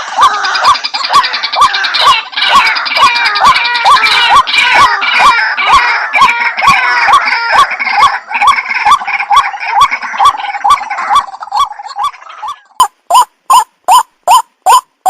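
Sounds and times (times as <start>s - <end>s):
waterhen calling: 0.0s - 14.9s
other bird calls: 0.0s - 15.0s.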